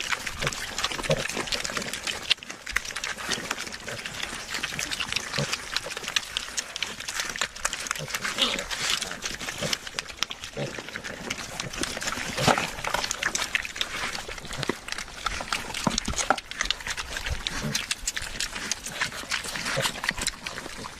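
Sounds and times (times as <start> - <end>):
pigs chomping and smacking: 0.0 - 20.9
pigs grunting: 0.0 - 20.9.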